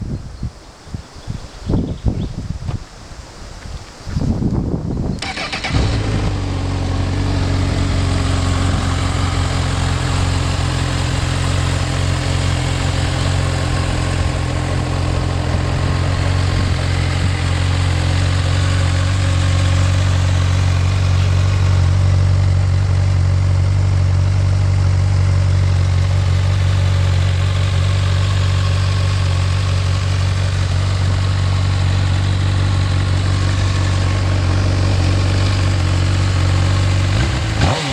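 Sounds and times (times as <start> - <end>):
motorcycle engine starting and idling: 5.0 - 37.9.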